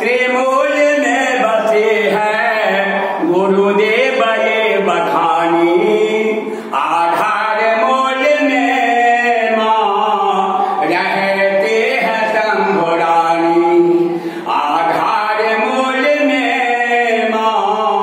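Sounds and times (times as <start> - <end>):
man chanting a hymn: 0.0 - 18.0.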